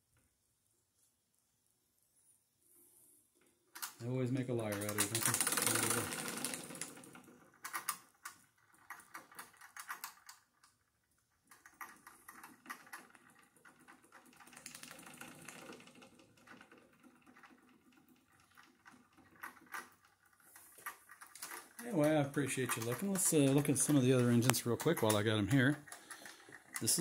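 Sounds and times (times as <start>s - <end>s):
model steam engine clicking and puffing: 3.8s - 10.4s, 11.4s - 27.0s.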